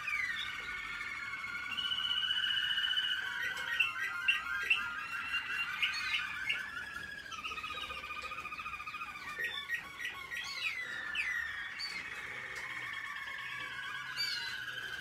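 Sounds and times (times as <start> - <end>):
canaries singing: 0.0 - 15.0.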